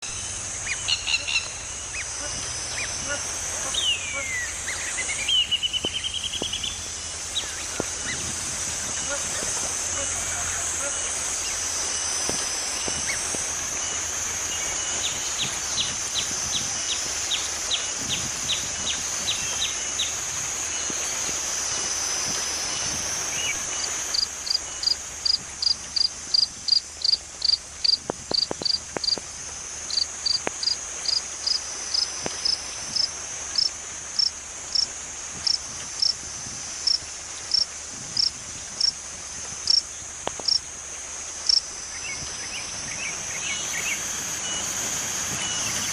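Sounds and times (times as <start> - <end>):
high-pitched insect trill: 0.0 - 45.9
loud repeated insect chirp: 0.0 - 45.9
quick run of insect chirps: 0.0 - 45.9.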